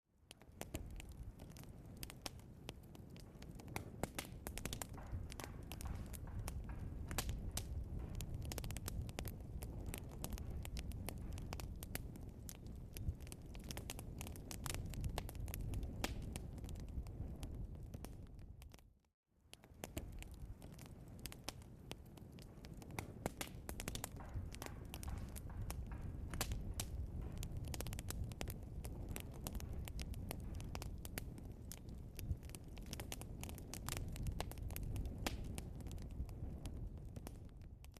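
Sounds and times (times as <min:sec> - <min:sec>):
low rumble of flames: 0:00.1 - 0:37.9
burning logs crackling and popping: 0:00.2 - 0:37.9.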